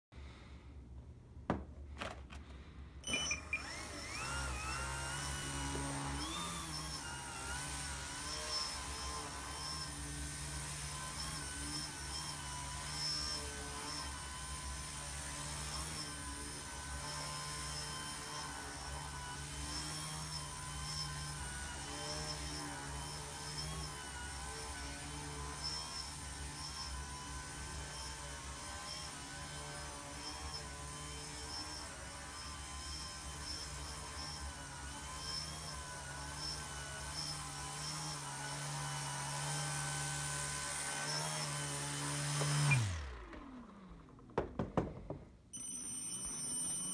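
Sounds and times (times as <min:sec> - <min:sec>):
rc plane motor whirring: 0:03.1 - 0:44.3.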